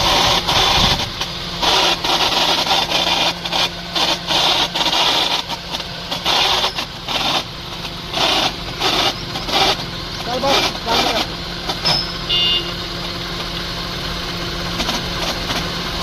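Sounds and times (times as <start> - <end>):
car engine humming: 0.0 - 16.0
harsh clutch plate noise: 0.0 - 16.0.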